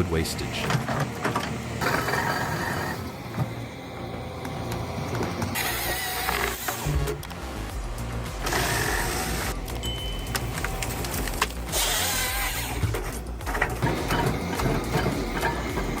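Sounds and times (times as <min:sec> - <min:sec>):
background music: 0:00.0 - 0:16.0
heavy machinery engine running: 0:00.0 - 0:16.0.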